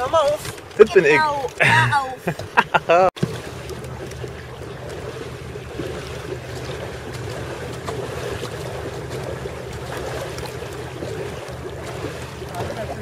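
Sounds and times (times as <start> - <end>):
water splashing around boat: 0.0 - 13.0.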